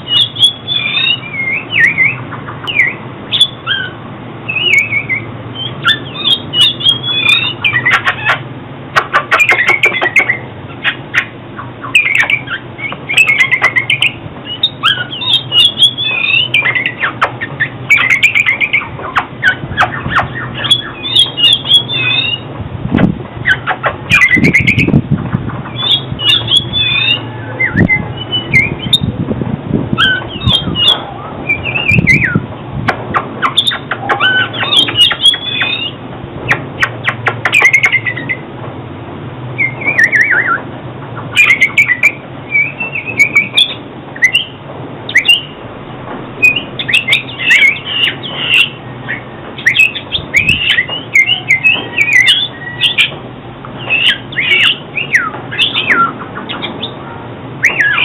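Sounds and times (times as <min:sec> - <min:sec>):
songbird singing whistled phrases: 0:00.0 - 0:08.4, 0:09.0 - 0:22.5, 0:23.4 - 0:25.0, 0:25.7 - 0:29.1, 0:30.0 - 0:32.4, 0:33.4 - 0:38.4, 0:39.6 - 0:40.6, 0:41.2 - 0:45.6, 0:46.4 - 0:53.2, 0:53.8 - 0:57.0, 0:57.6 - 0:58.0.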